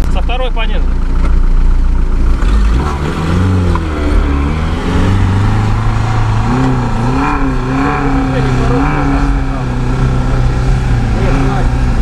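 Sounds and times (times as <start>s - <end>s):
car engine revving under load: 0.9s - 12.0s.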